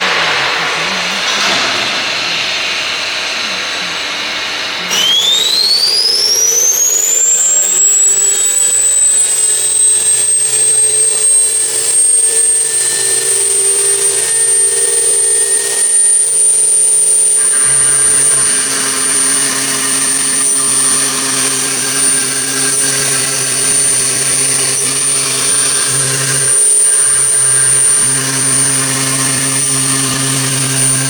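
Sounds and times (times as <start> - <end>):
machine spindle whine: 0.0 - 31.0.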